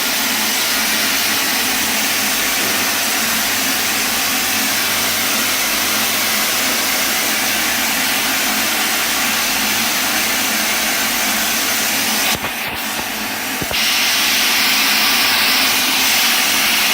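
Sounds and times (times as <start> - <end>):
milling machine hissing: 0.0 - 16.9.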